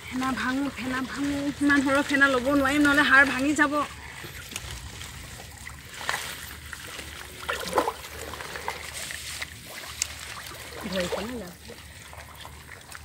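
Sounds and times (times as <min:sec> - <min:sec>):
short water splashes: 0:00.0 - 0:13.0
water sloshing and trickling: 0:00.0 - 0:13.0.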